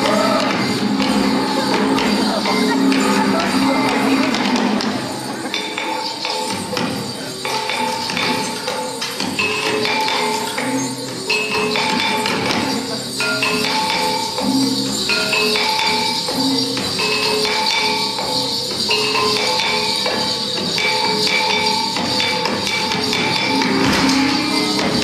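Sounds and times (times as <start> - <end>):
high jingling percussion: 0.0 - 25.0
instrumental dance music: 0.0 - 25.0.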